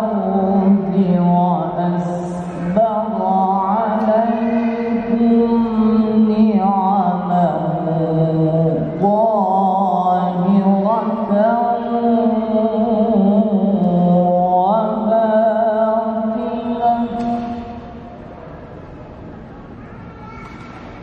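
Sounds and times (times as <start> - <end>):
man reciting melodically into microphone: 0.0 - 17.6.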